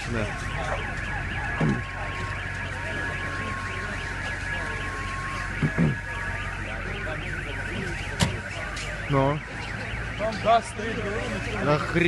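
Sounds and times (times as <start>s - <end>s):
car alarm warbling: 0.0s - 12.0s.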